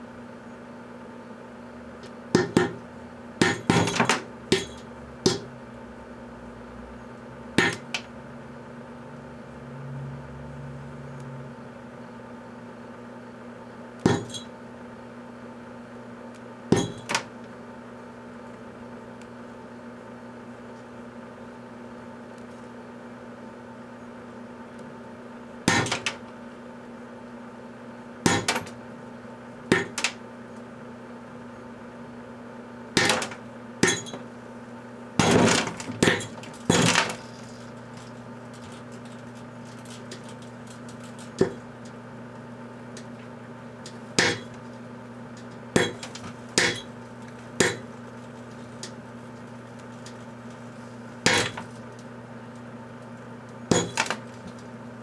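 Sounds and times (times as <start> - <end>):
microwave oven humming: 0.0 - 55.0.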